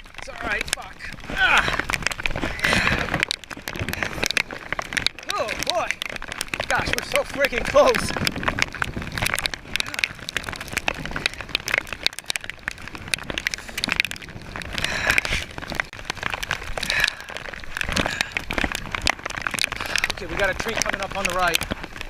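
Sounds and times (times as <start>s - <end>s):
rain pattering: 0.0s - 22.0s
water splashing around a kayak: 0.0s - 22.0s.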